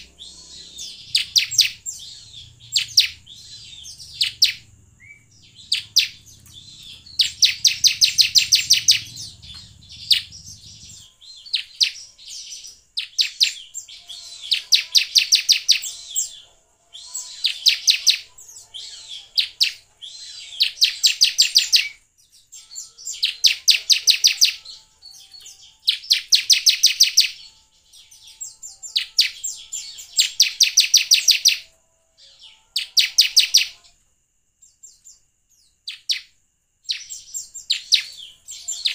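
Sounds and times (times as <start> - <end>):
bird chattering song: 0.0 - 33.9, 34.9 - 38.9.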